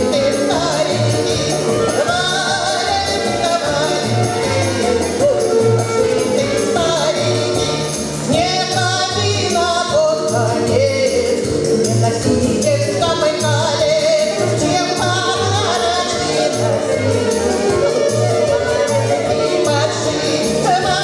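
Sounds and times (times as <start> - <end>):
woman singing into microphone: 0.0 - 4.2, 5.0 - 21.0
instrumental backing track with bass: 0.0 - 21.0.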